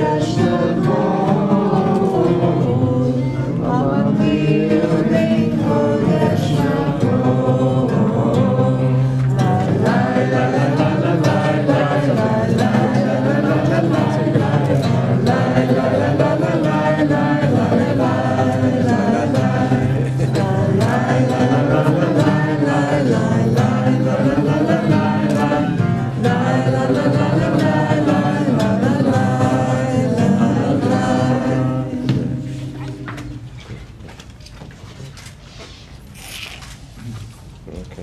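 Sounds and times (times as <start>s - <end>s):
group singing in unison: 0.0s - 33.1s
strummed acoustic guitar: 0.0s - 33.5s.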